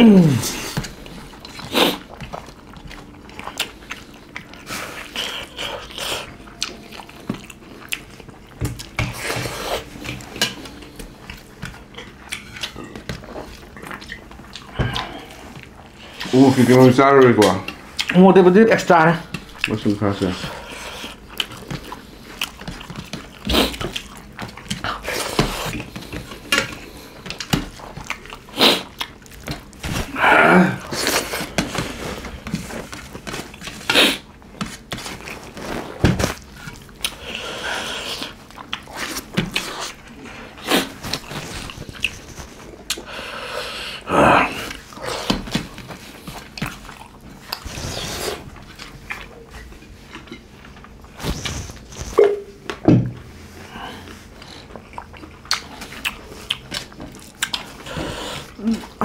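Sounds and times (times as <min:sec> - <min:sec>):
chewing and mouth noises: 0:00.1 - 0:30.2, 0:30.8 - 0:43.2, 0:44.0 - 0:59.0.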